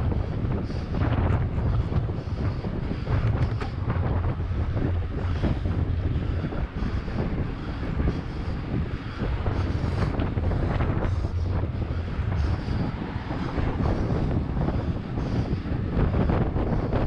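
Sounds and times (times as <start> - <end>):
bike rattles: 0.0 - 17.0
wind buffeting microphone: 0.0 - 17.0.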